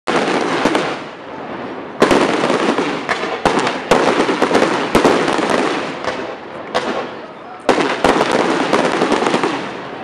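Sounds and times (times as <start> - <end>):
fireworks bangs: 0.1 - 10.0
fireworks crackling: 0.1 - 10.0.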